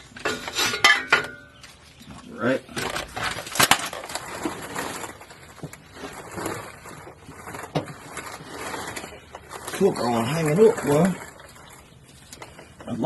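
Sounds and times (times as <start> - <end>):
rustling handling noise: 0.0 - 13.0.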